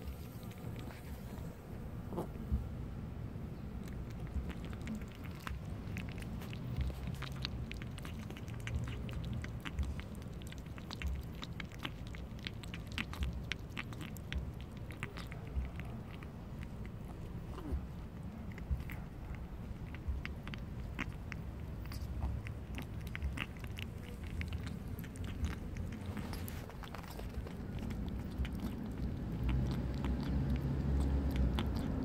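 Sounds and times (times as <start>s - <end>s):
low steady rumble: 0.0s - 32.0s
kitten chewing clicks: 3.8s - 32.0s.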